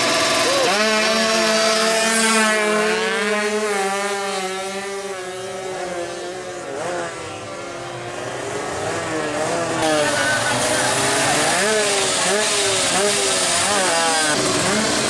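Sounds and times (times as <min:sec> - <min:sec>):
two-stroke engine at high revs: 0:00.0 - 0:15.0.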